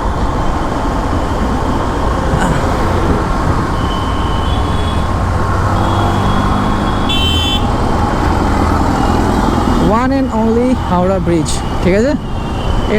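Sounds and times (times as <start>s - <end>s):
surrounding traffic noise: 0.0s - 12.9s.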